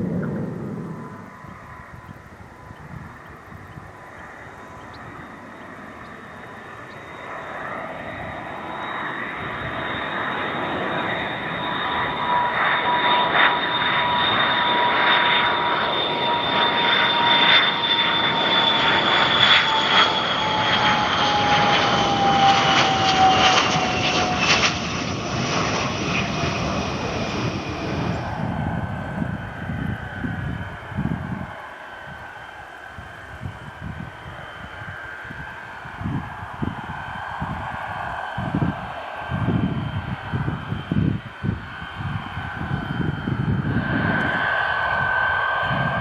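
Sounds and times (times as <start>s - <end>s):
jet engine roar with whistle: 0.0s - 46.0s.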